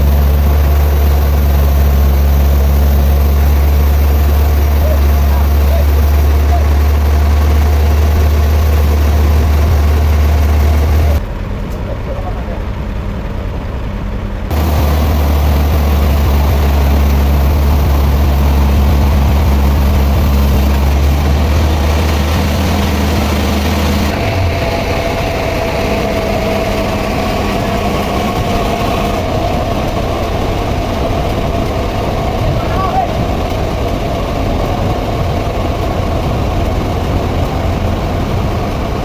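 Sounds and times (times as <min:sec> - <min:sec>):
heavy engine humming: 0:00.0 - 0:39.0.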